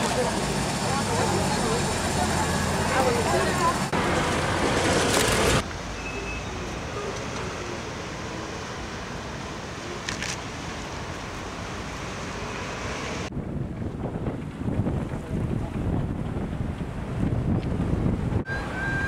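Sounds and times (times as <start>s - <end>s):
steady outdoor rush: 0.0s - 19.0s.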